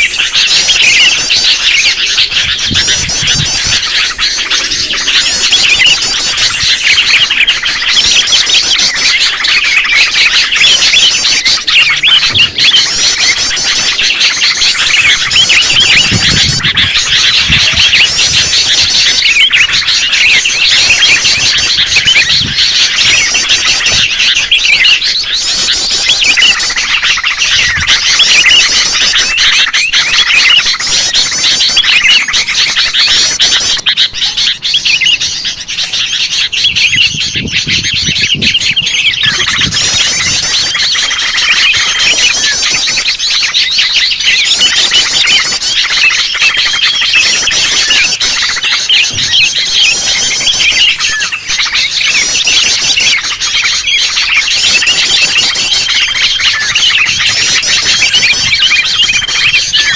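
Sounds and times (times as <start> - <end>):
bulbuls chirping in a chorus: 0.0 - 59.9.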